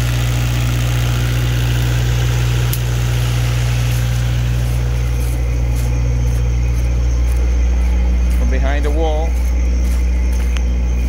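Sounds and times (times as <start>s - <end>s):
diesel generator humming: 0.0s - 11.0s.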